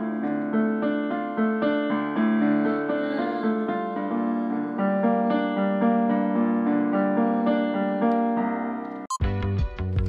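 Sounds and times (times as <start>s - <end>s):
digital piano playing: 0.0s - 9.2s.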